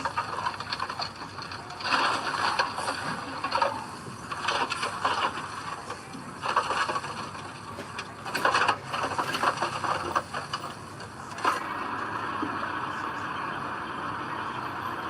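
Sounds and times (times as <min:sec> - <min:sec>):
heavy machinery clanks and scrapes: 0:00.0 - 0:13.1
heavy machinery running: 0:00.0 - 0:15.0.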